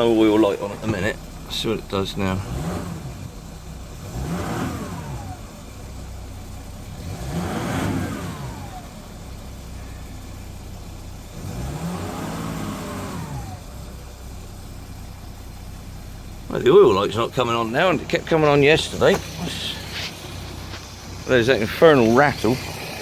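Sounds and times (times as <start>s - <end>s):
diesel engine idling and revving: 0.0s - 23.0s.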